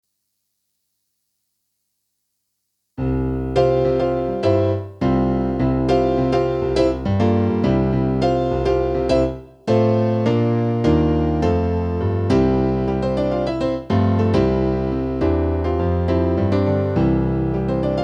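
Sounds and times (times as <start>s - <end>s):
keyboard piano melody over chords: 3.0s - 18.0s.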